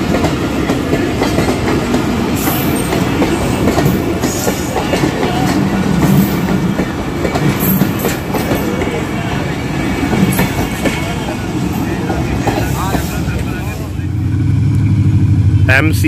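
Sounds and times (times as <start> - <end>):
train wheels clicking over rail joints: 0.0 - 13.6.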